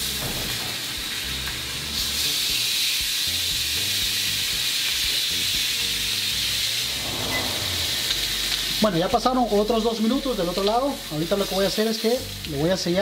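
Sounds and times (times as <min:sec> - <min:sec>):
steak sizzling in a pan: 0:00.0 - 0:13.0
music playing: 0:01.4 - 0:13.0.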